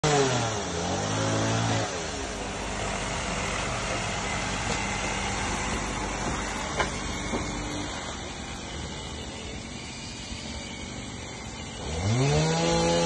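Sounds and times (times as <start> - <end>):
engine hum sliding in pitch: 0.0 - 13.0.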